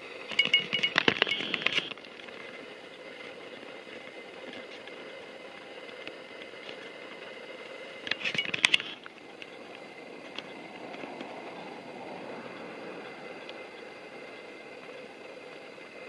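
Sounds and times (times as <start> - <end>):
crackling with squealing tones: 0.0 - 16.0
electric train humming: 0.0 - 16.0.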